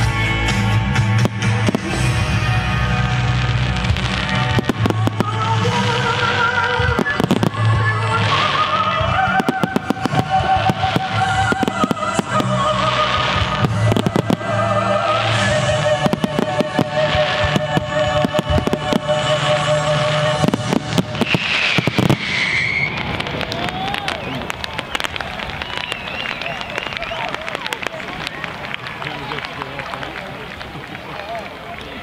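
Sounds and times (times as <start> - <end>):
fireworks bursting: 0.1 - 32.0.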